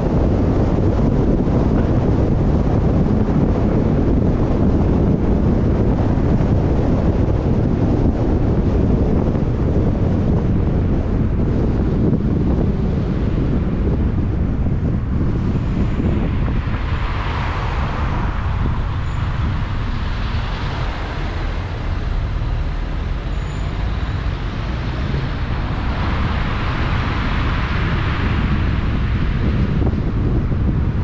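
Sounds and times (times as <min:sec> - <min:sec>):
road and wind rumble: 0:00.0 - 0:31.0.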